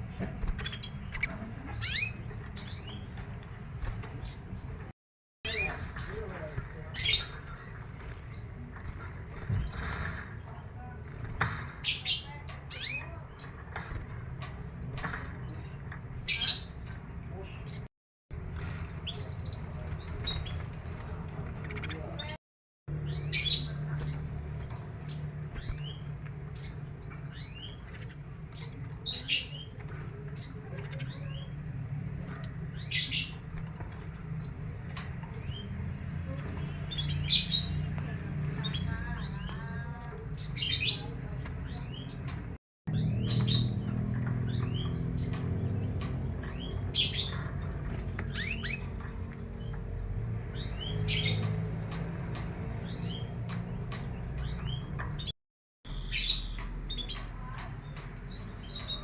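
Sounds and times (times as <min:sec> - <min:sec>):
canary chirping: 0:00.0 - 0:59.0.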